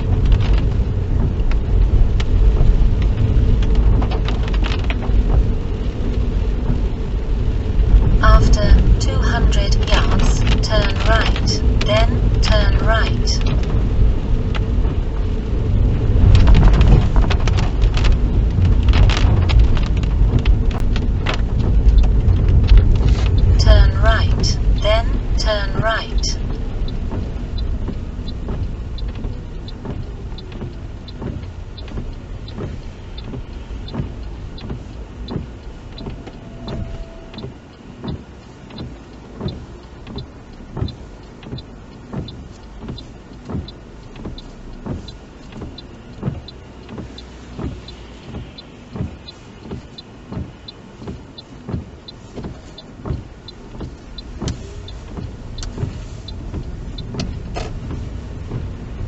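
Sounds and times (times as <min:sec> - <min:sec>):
engine and tyre noise: 0:00.0 - 0:59.0
windscreen wipers thumping: 0:00.0 - 0:59.0.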